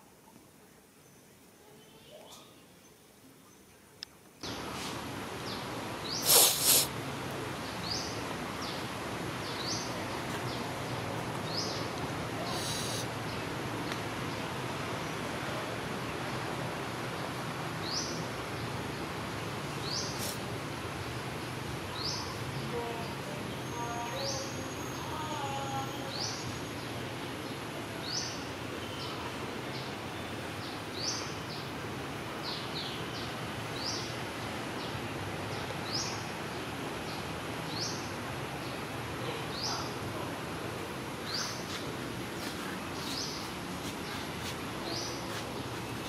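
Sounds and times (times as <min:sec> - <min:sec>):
outdoor background noise: 0:00.0 - 0:46.0.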